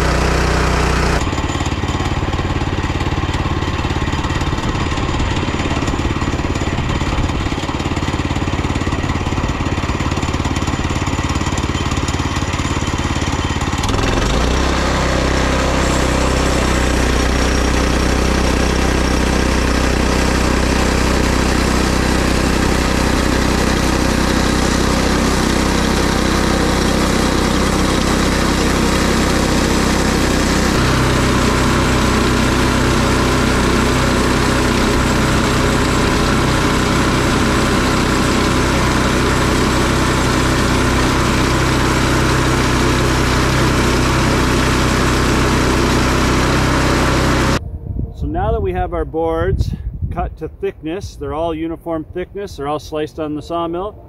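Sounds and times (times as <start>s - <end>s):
bandsaw mill sawing log: 0.0s - 47.6s.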